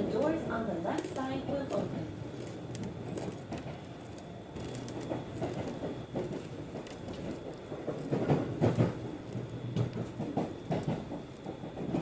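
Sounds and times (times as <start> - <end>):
train rumble inside carriage: 0.0 - 12.0
wheels clacking over rail joints: 0.0 - 12.0.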